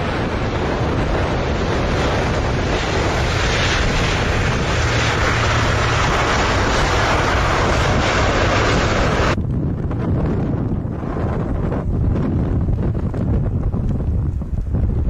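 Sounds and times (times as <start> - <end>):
jet engines reverse thrust rush: 0.0 - 15.0
wind on microphone: 0.0 - 15.0.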